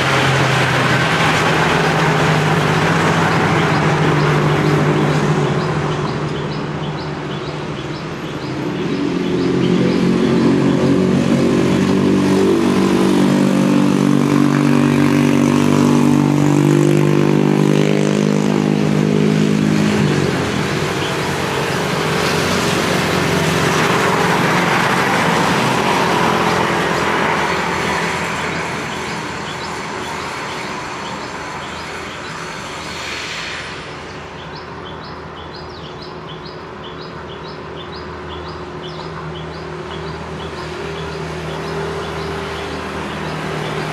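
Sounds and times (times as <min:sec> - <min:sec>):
vehicle engine running close: 0:00.0 - 0:35.8, 0:37.4 - 0:43.9
vehicle passing: 0:00.0 - 0:36.4, 0:37.0 - 0:43.9
road traffic: 0:00.0 - 0:43.9.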